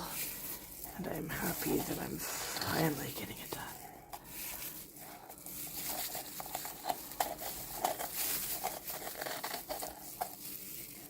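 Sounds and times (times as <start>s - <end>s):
rustling and crinkling: 0.0s - 11.0s.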